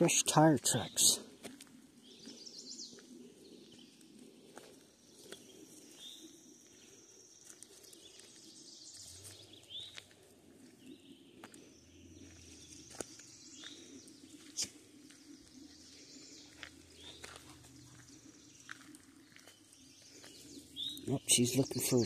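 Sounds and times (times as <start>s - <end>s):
light ticks like steps on gravel: 0.2s - 21.1s
bird chirping: 2.0s - 22.0s.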